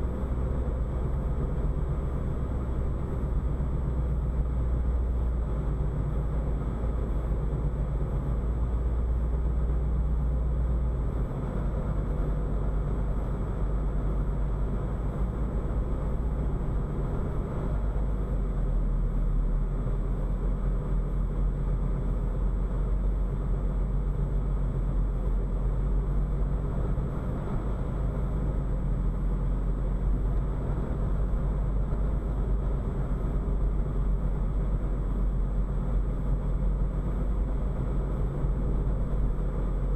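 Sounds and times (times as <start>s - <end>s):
car engine and road noise rumble: 0.0s - 39.9s.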